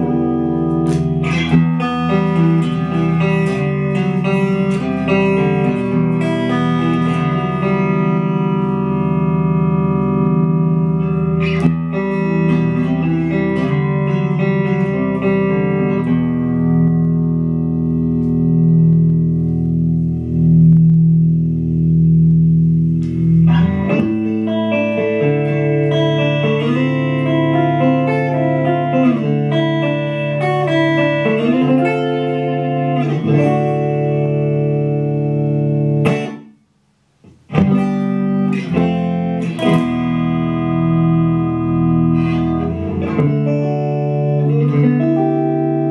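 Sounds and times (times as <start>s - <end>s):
electric guitar chords: 0.0s - 45.9s.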